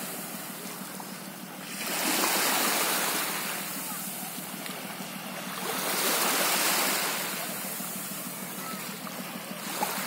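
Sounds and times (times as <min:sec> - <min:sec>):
small waves washing on beach: 0:00.0 - 0:10.0.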